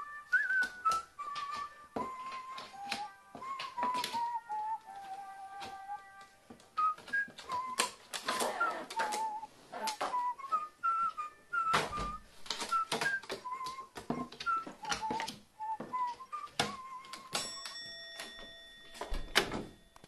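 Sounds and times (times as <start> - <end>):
plastic rustling: 0.0 - 17.2
whistled tune music: 0.0 - 18.4.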